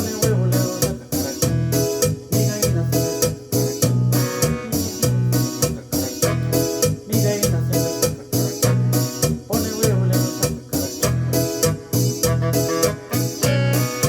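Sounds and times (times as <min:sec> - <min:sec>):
drum and bass rhythm: 0:00.0 - 0:14.0
electronic keyboard melody: 0:00.0 - 0:14.0.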